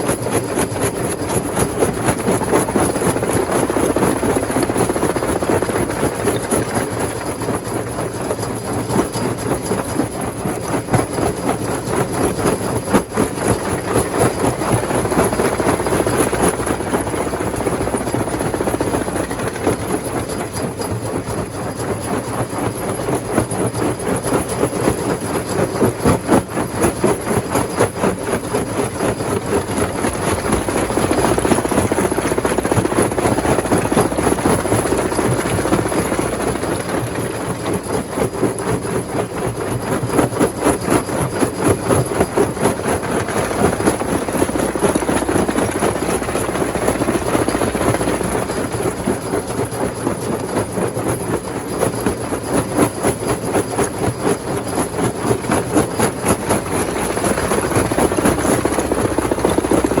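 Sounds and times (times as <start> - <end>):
stone crusher machinery running: 9.8 - 60.0.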